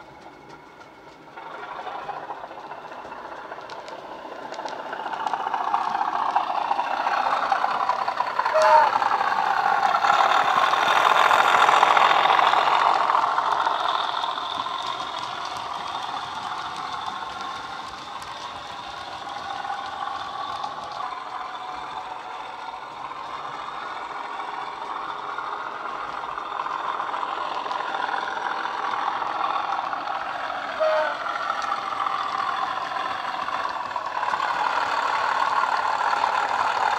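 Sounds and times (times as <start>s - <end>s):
diesel engine through small speaker: 0.0s - 36.9s.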